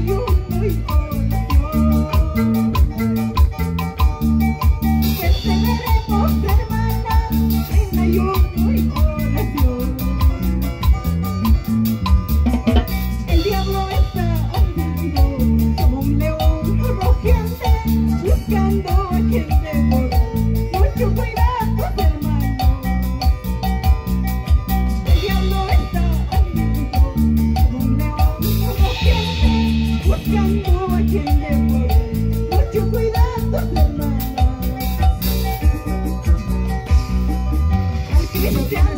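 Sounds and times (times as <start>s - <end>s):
drum kit steady beat: 0.0s - 38.9s
electric bass: 0.0s - 38.9s.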